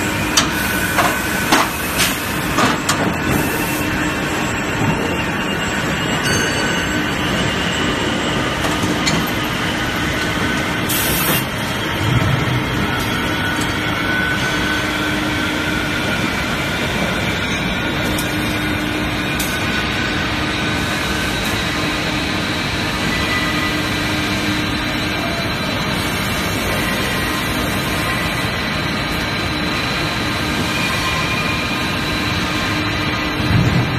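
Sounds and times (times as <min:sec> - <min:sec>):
machinery humming: 0:00.0 - 0:33.9.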